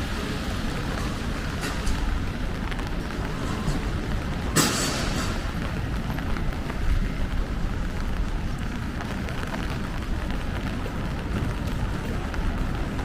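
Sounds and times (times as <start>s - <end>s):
raindrops ticking: 0.8s - 13.0s.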